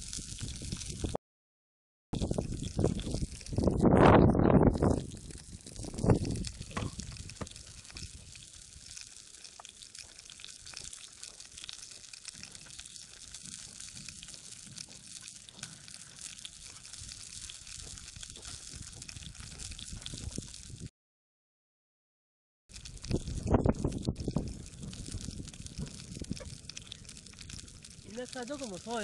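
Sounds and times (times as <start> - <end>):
fish sizzling in a frying pan: 0.0 - 1.2, 2.2 - 4.0, 4.6 - 20.9, 22.7 - 29.0.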